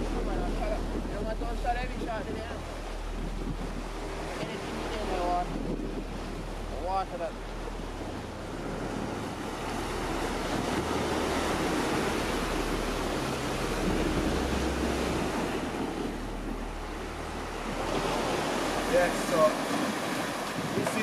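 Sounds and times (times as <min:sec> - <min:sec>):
surf breaking on rocks: 0:00.0 - 0:21.0
wind on microphone: 0:00.0 - 0:21.0.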